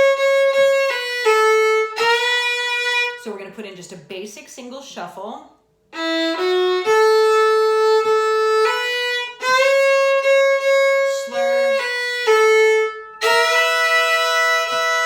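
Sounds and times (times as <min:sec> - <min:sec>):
solo fiddle melody: 0:00.0 - 0:03.3, 0:05.9 - 0:15.0.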